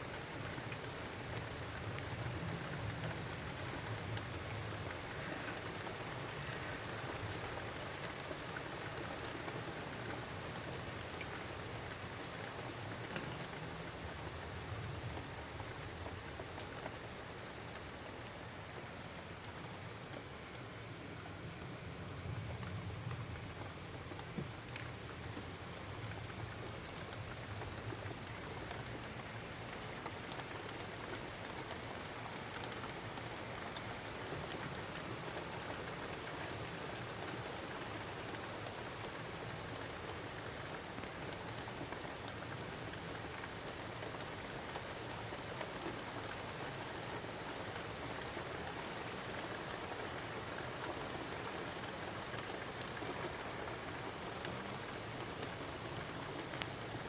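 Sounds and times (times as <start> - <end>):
heavy rain falling: 0.1 - 57.0.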